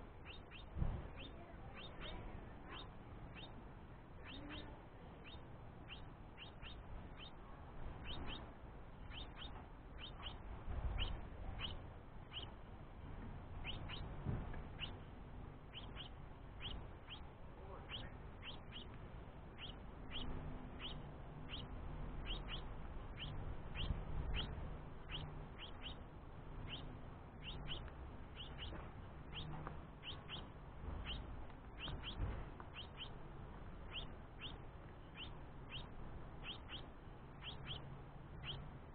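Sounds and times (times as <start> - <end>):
fledgling bird begging chirps: 0.0 - 12.6, 13.4 - 38.8.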